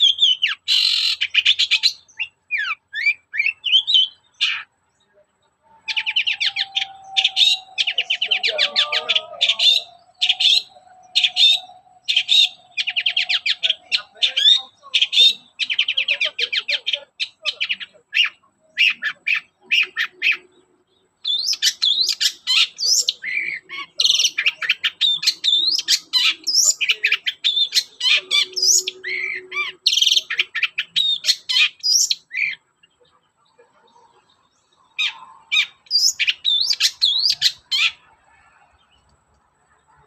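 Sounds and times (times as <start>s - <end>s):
bird singing chattering song: 0.0s - 40.0s.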